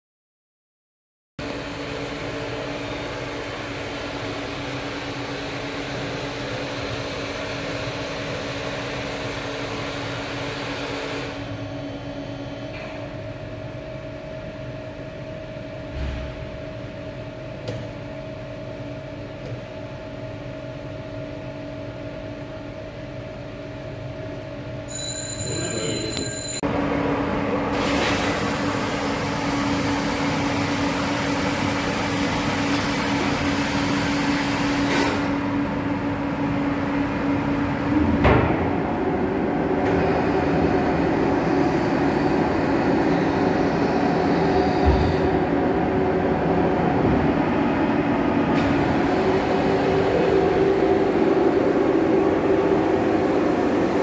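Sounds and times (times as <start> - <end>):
bowl cutter mechanical hum: 1.4 - 54.0.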